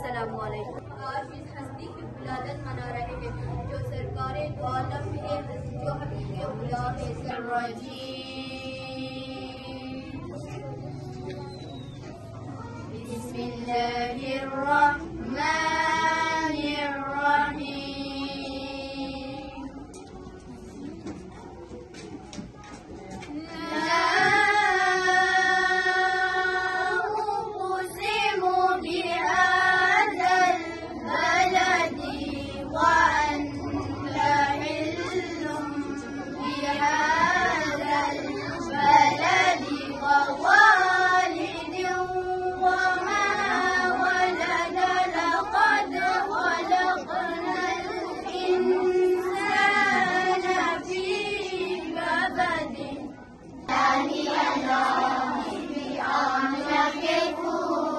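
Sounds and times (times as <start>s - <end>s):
girls singing into a microphone: 2.2s - 10.9s, 12.4s - 20.0s, 23.3s - 57.9s.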